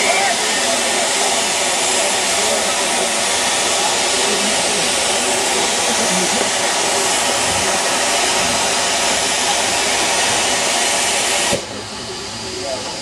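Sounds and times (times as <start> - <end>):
steam hissing from locomotive: 0.0 - 13.0.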